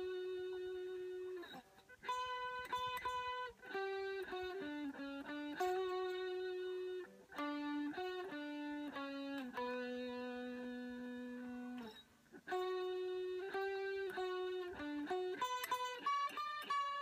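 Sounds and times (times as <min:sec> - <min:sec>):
slow electric guitar melody: 0:00.0 - 0:17.0.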